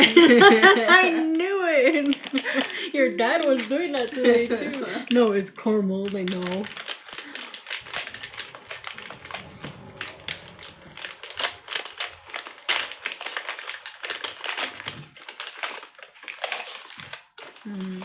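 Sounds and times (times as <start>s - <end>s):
plastic wrapper crinkling: 1.6s - 18.0s.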